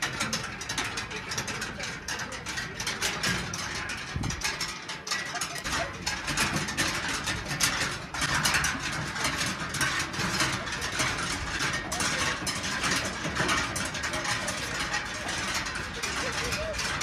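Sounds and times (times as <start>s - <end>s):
prayer wheels rattling and creaking: 0.0s - 17.0s.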